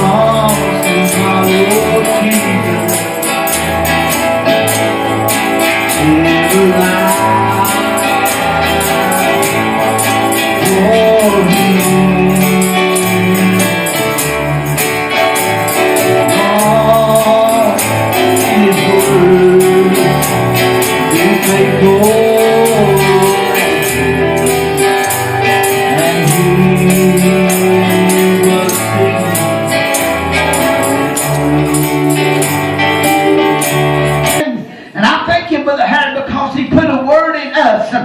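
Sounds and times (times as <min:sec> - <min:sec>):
pulsing bass line: 0:00.0 - 0:34.4
quick even jingle: 0:00.0 - 0:34.4
church band playing gospel music: 0:00.0 - 0:35.2.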